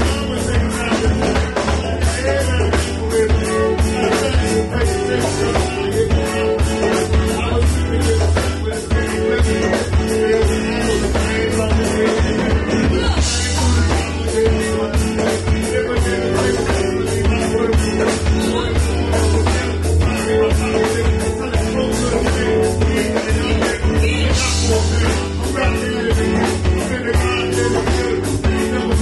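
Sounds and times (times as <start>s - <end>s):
drum kit: 0.0s - 29.0s
electric guitar: 0.0s - 29.0s
vocalists singing: 0.0s - 29.0s.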